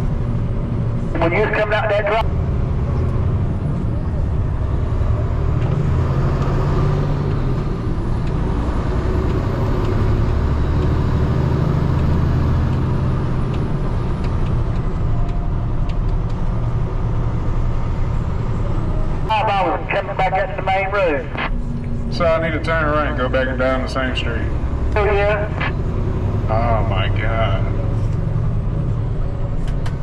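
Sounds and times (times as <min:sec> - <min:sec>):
diesel truck engine droning: 0:00.0 - 0:30.0.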